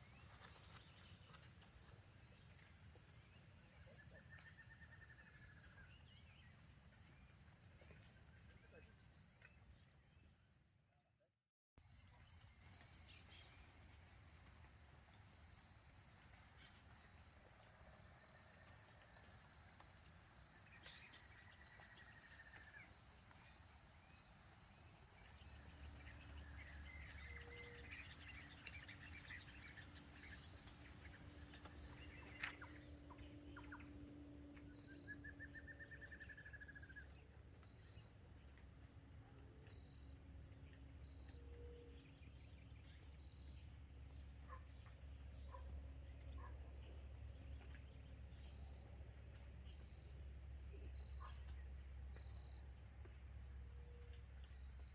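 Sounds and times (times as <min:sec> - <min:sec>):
crickets and insects chirping: 0:00.0 - 0:11.1, 0:11.8 - 0:54.9.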